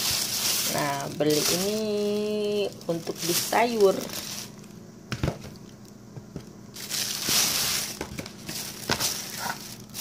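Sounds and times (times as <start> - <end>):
plastic bags rustling: 0.0 - 6.0, 6.7 - 10.0.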